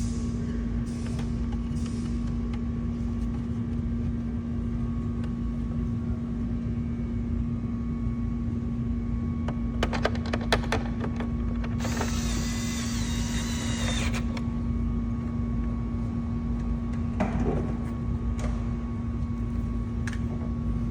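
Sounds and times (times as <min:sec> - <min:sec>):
low machine hum: 0:00.0 - 0:20.9.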